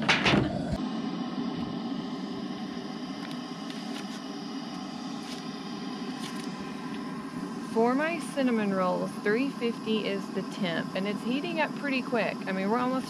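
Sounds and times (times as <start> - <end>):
camp stove burner hissing: 0.0 - 13.0.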